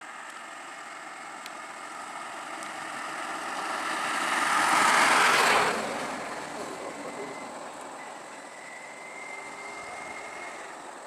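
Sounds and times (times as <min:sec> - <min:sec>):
vehicle engine running: 0:00.1 - 0:11.0.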